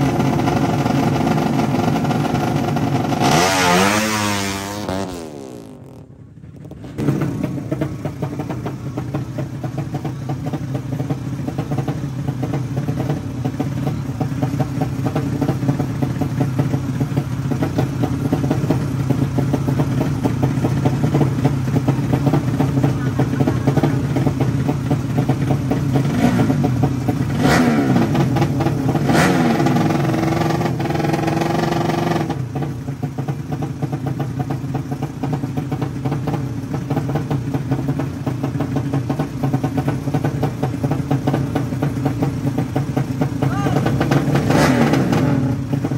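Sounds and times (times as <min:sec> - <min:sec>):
motorcycle engines revving: 0:00.0 - 0:45.9.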